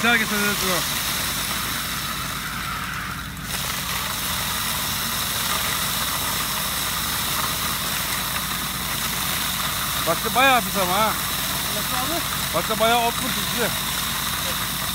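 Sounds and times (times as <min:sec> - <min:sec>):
engine humming: 0:00.0 - 0:14.9
suction hose hissing: 0:00.0 - 0:14.9.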